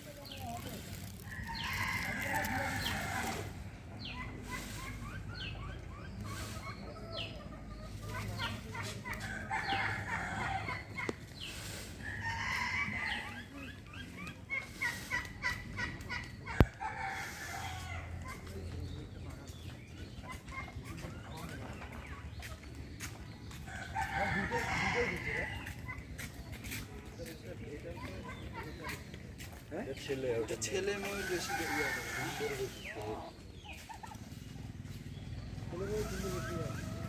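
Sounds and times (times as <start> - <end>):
birds chirping and clucking: 0.0 - 37.0.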